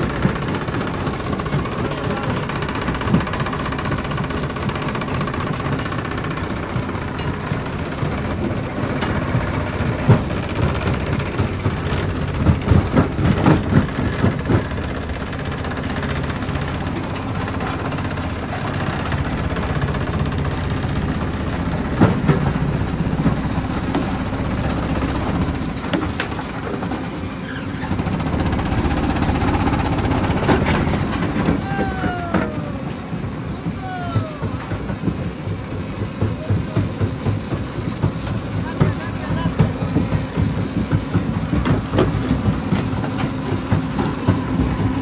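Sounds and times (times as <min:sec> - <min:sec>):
rock crusher mechanical drone: 0:00.0 - 0:45.0.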